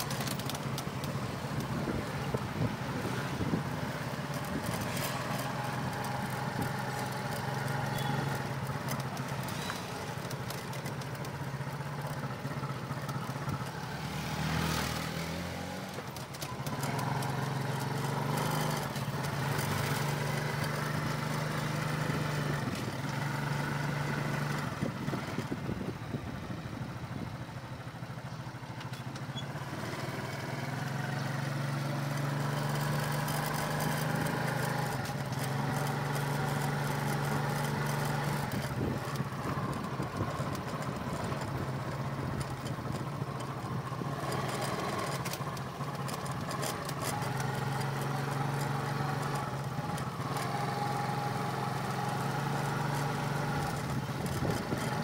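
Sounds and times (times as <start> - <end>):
road and wind noise: 0.0 - 55.0
small motorcycle engine running: 0.0 - 55.0.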